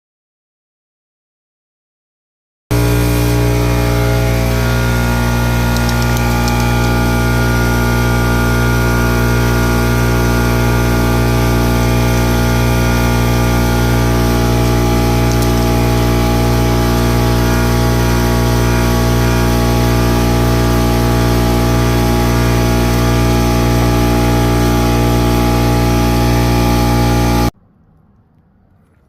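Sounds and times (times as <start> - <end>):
machine motor humming: 2.7 - 27.5.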